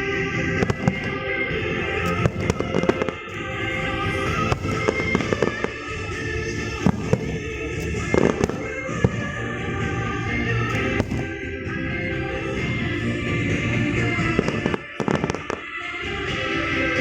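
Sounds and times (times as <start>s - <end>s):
fireworks banging: 0.0s - 16.4s
music playing: 0.0s - 17.0s.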